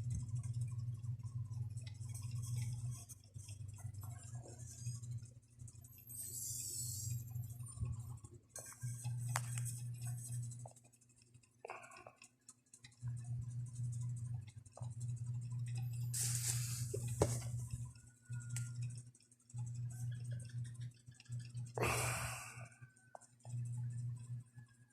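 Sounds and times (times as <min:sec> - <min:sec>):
low hum: 0:00.0 - 0:11.8, 0:12.9 - 0:22.8.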